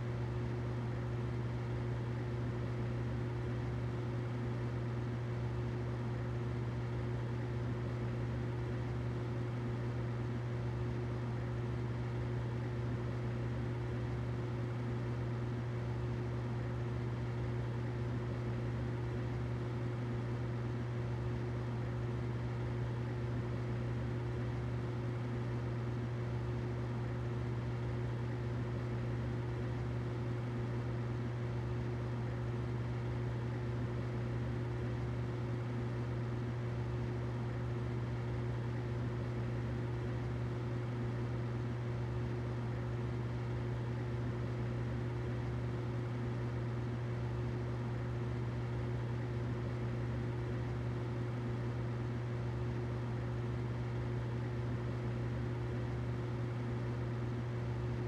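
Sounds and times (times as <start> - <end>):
humidifier humming: 0.0 - 58.0.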